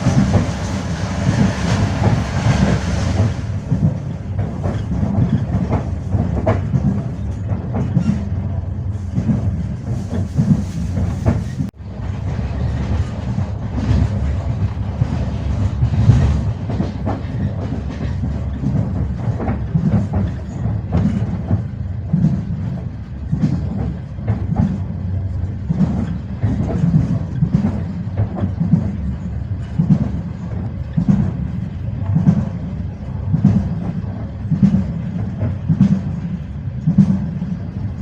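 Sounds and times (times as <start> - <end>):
low train rumble: 0.0 - 38.0
train wheels clattering over rail joints: 0.0 - 38.0.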